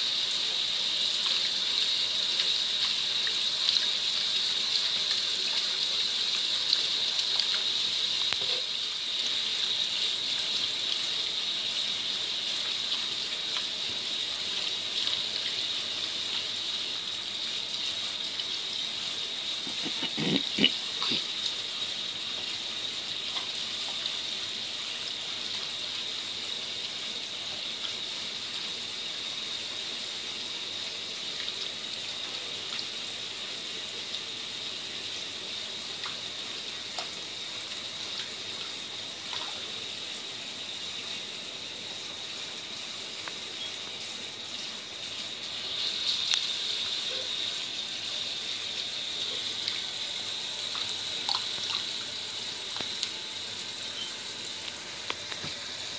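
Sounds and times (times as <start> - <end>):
tap water running into a bowl: 0.0 - 55.9.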